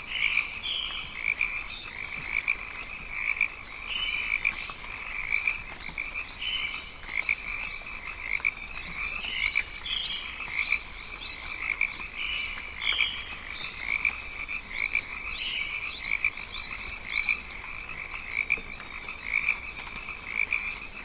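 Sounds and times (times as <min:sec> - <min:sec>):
frog chorus: 0:00.0 - 0:21.0.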